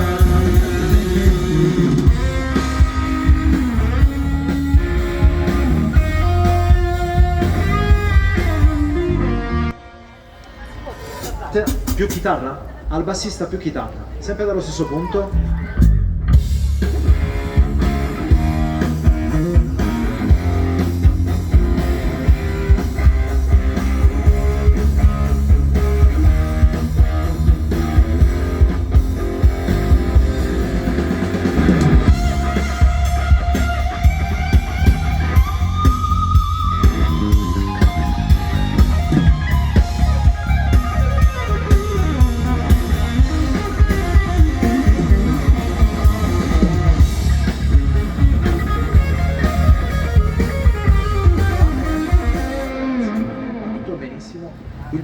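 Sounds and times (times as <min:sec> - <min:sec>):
drum kit steady beat: 0:00.0 - 0:09.1, 0:11.2 - 0:12.4, 0:15.8 - 0:52.8
bass guitar: 0:00.0 - 0:10.1, 0:15.3 - 0:54.0
electric guitar: 0:00.0 - 0:11.0, 0:15.4 - 0:54.9.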